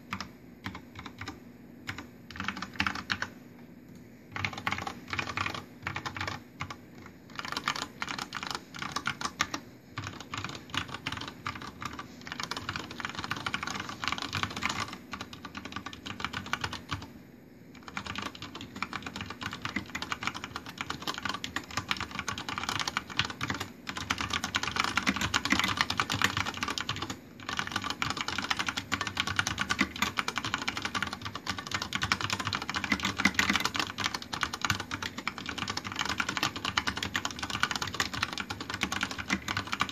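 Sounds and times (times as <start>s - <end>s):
mechanical keyboard typing: 0.0s - 3.3s, 4.3s - 17.1s, 17.8s - 39.9s.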